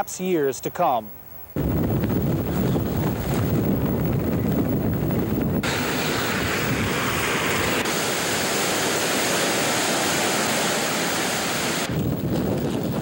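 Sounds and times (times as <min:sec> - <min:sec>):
storm wind and water rushing: 0:01.6 - 0:13.0.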